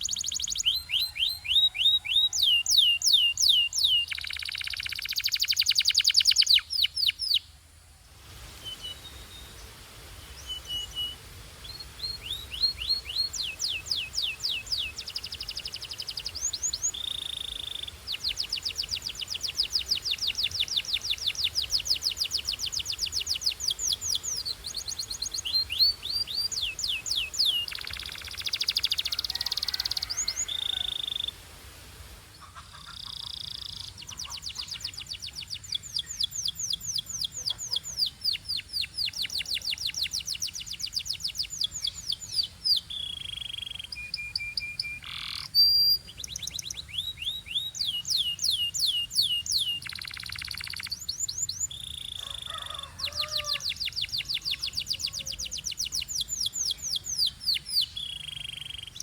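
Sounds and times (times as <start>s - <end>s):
canary singing trills: 0.0s - 7.5s, 8.7s - 31.4s, 32.4s - 59.0s.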